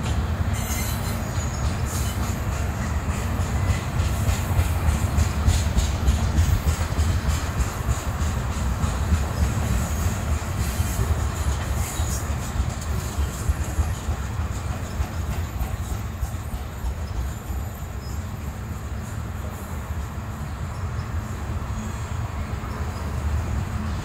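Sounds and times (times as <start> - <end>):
steel wheels rumbling on rails: 0.0 - 24.0.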